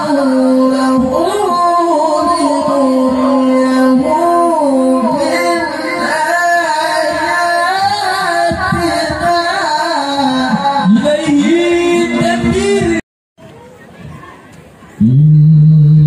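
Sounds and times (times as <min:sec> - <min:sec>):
man reciting melodically over loudspeaker: 0:00.0 - 0:13.0.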